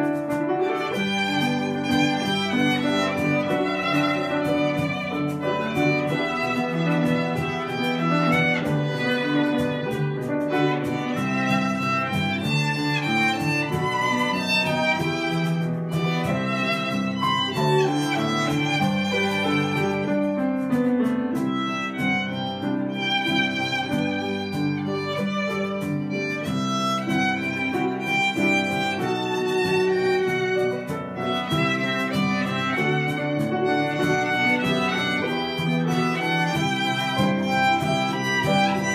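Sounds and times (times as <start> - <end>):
cajon drumming: 0.0 - 38.9
piano accompaniment: 0.0 - 38.9
violins playing a melody: 0.0 - 38.9.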